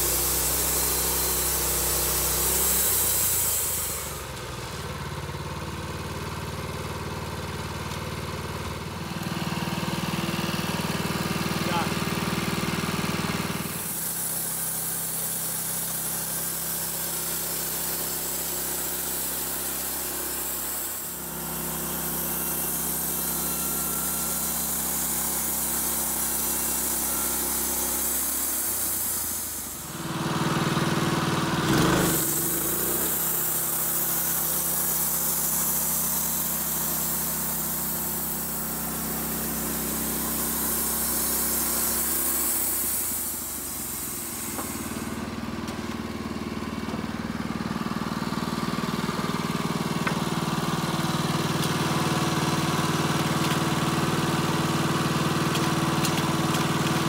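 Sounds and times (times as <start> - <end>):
saw blade cutting log: 0.0 - 4.9, 9.1 - 46.1, 46.9 - 57.0
sawmill gas engine running: 0.0 - 57.0.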